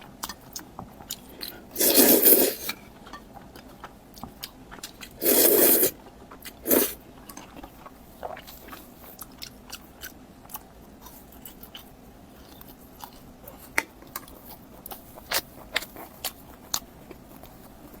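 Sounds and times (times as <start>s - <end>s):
chewing with clicking mouth sounds: 0.0s - 1.6s, 3.0s - 5.2s, 6.0s - 18.0s.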